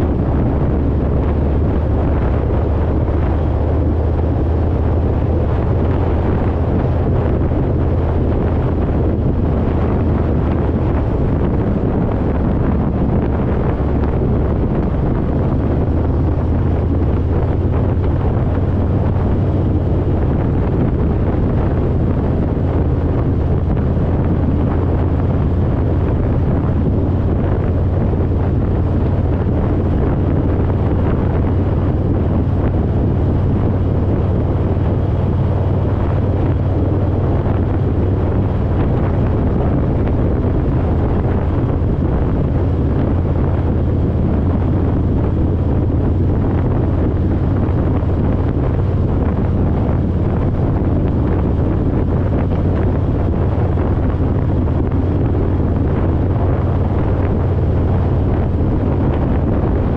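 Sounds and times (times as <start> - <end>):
motorcycle engine rumble: 0.0 - 59.9
wind rushing over microphone: 0.0 - 59.9.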